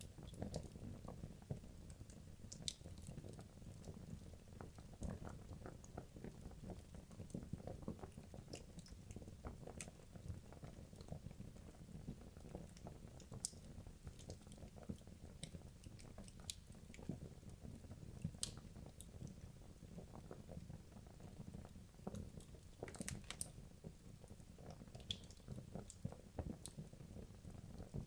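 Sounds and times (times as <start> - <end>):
logs burning in a fireplace: 0.0 - 28.0.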